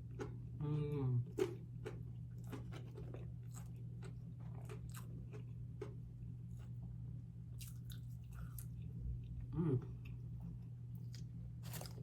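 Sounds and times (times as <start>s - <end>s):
chewing crispy fried food: 0.0s - 6.9s, 7.5s - 12.0s
steady low hum: 0.0s - 12.0s.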